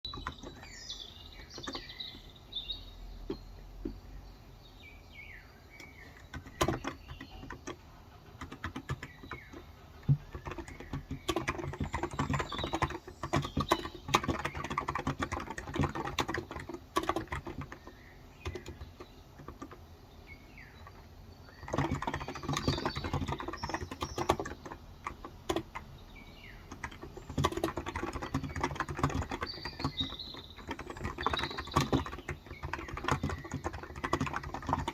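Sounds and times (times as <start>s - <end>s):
typing on a keyboard: 0.0s - 2.3s, 5.8s - 19.9s, 20.8s - 34.9s
birds chirping: 0.0s - 34.9s.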